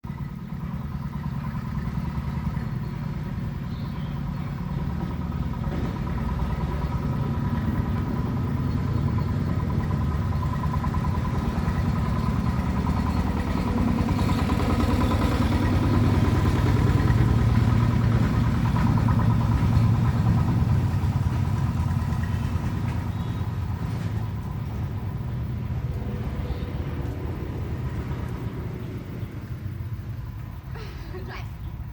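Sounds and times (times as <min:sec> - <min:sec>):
engine running with low rumble: 0:00.0 - 0:31.9.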